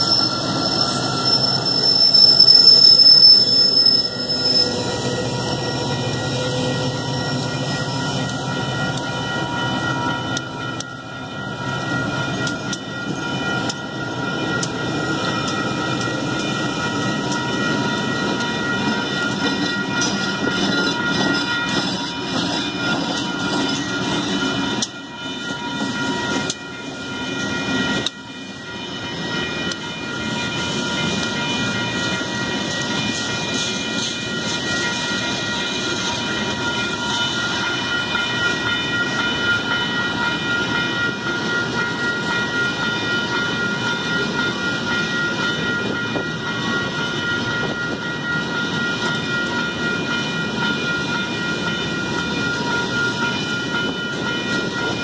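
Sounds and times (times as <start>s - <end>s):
diesel locomotives passing: 0.0s - 55.0s
train wheels clacking on rails: 0.0s - 55.0s.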